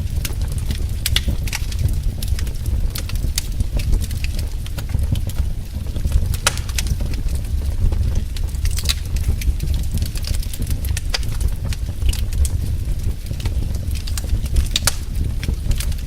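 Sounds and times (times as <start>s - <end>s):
fireplace fire crackling: 0.0s - 16.0s
low rumble of flames: 0.0s - 16.0s.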